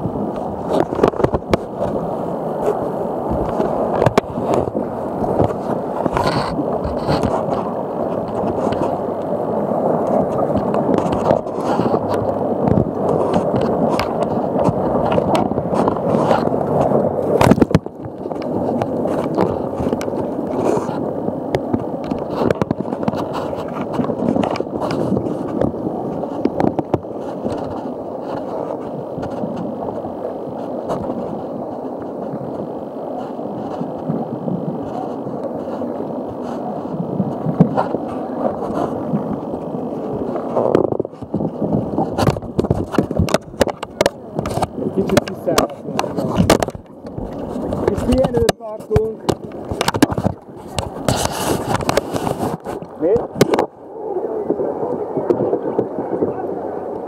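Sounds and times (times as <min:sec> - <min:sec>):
fabric rubbing on microphone: 0:00.6 - 0:09.1, 0:10.0 - 0:21.1, 0:22.2 - 0:29.8, 0:34.7 - 0:53.7.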